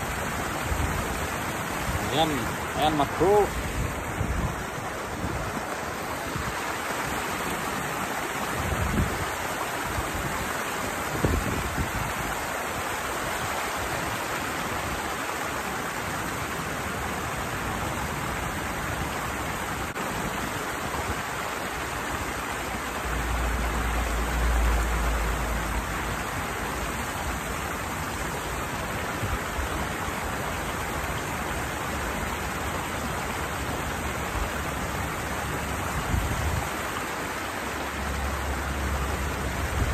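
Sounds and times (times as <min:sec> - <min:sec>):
water rushing over waterfall: 0:00.0 - 0:39.9.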